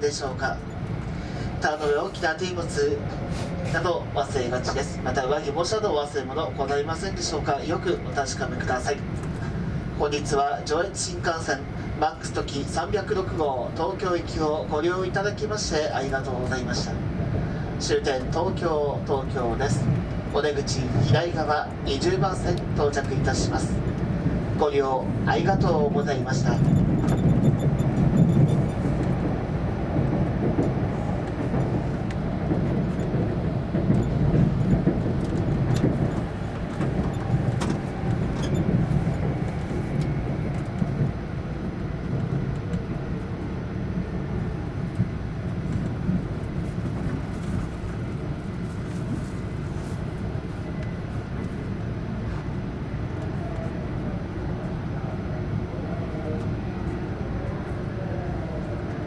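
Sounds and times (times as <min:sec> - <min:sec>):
train interior rumble: 0:00.0 - 0:59.0.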